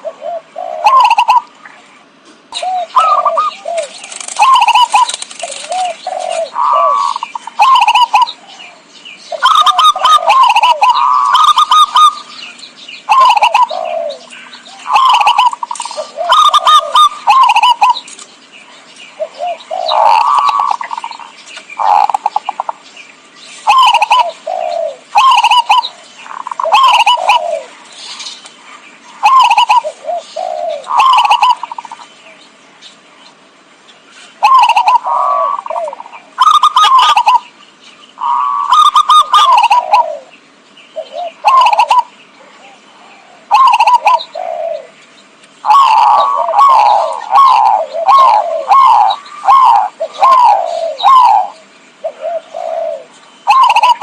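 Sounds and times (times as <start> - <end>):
dove cooing: 0.0 - 18.2, 19.2 - 22.8, 23.6 - 28.4, 29.2 - 32.1, 34.3 - 37.5, 38.2 - 40.4, 41.0 - 45.0, 45.6 - 54.0.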